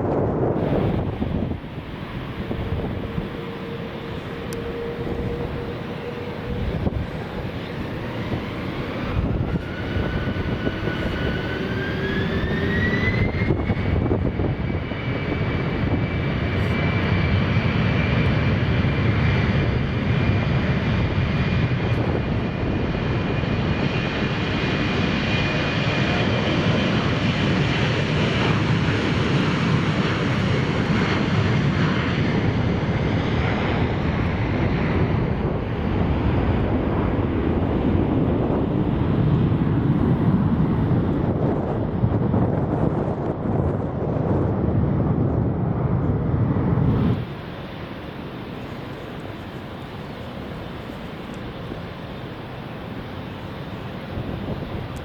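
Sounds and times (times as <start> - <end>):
jet engine roar: 0.0 - 55.0
jet engine whine: 0.0 - 55.0.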